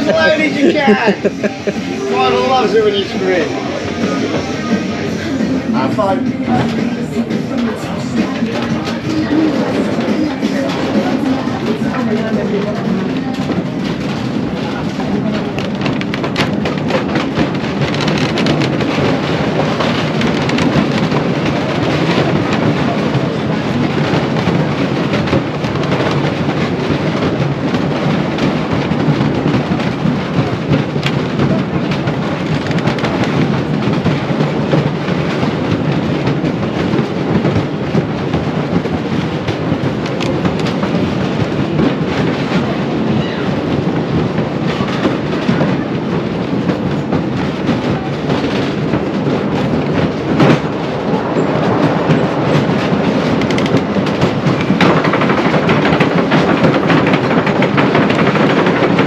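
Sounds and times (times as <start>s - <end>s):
roller coaster wheels rumbling: 0.0s - 59.0s.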